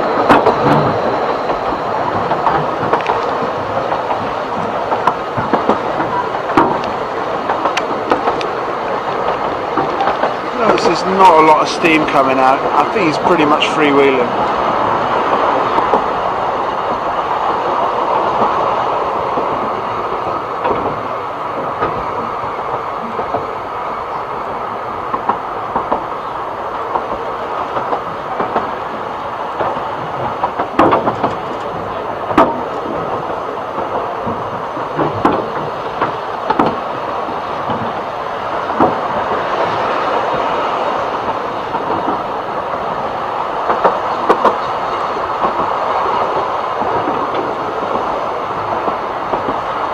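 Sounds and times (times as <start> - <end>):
train carriage rumbling on track: 0.0 - 49.9
wheel clicks over rail joints: 0.0 - 49.9.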